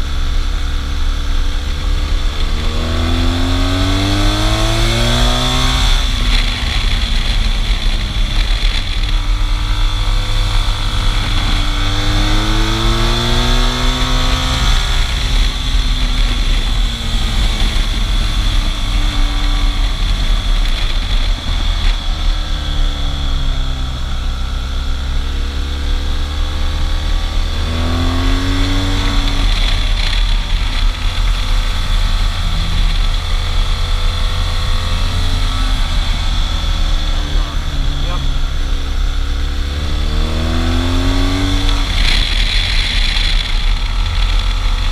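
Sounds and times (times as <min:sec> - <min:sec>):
motorcycle engine revving: 0:00.0 - 0:44.9
wind noise: 0:00.0 - 0:44.9.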